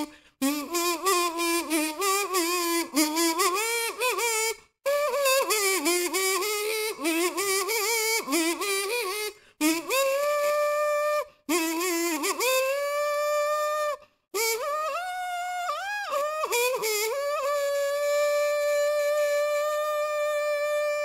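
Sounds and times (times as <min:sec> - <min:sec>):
kazoo playing a melody: 0:00.0 - 0:21.0.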